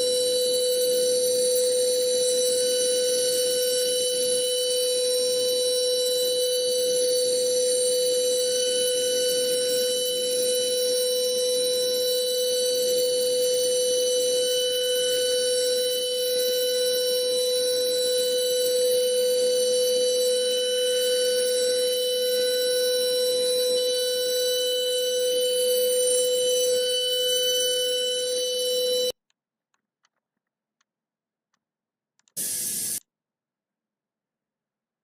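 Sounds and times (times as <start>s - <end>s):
electronic buzzing drone: 0.0s - 29.1s, 32.4s - 33.0s.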